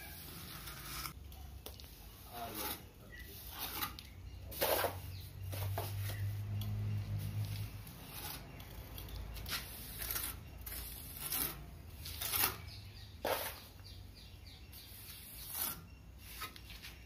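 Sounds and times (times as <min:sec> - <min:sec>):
steel trowel scraping mortar: 0:00.0 - 0:01.2, 0:02.2 - 0:06.2, 0:07.2 - 0:13.8, 0:14.7 - 0:16.7.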